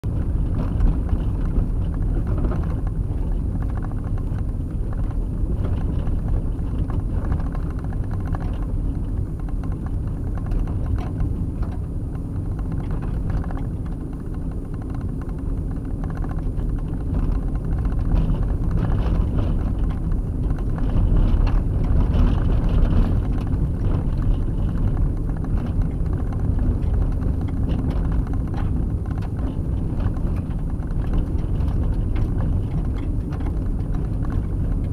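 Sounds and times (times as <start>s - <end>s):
vehicle engine and tyres rumbling: 0.0s - 34.9s
small knocks and rattles: 0.1s - 34.9s.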